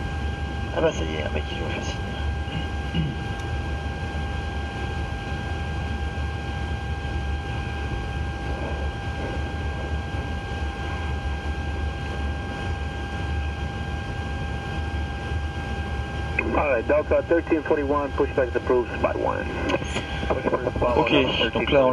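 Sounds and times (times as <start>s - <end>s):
aircraft engine low rumble and hiss: 0.0s - 21.9s.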